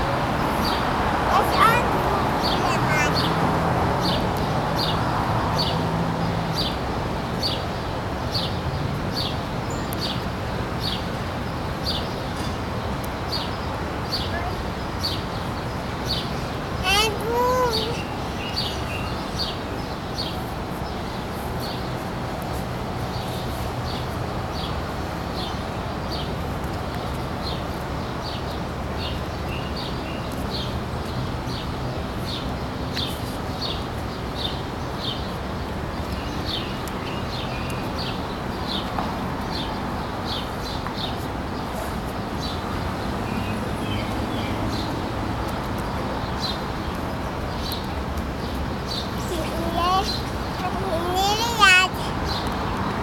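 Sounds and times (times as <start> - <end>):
low rumble of traffic: 0.0 - 53.0.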